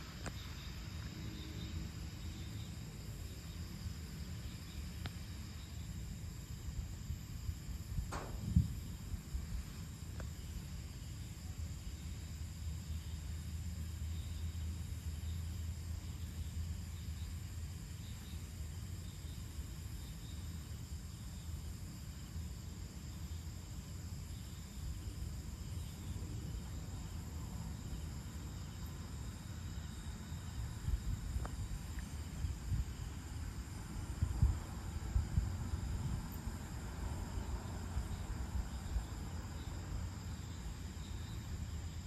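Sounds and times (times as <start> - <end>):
crickets and insects chirring: 0.0 - 42.0.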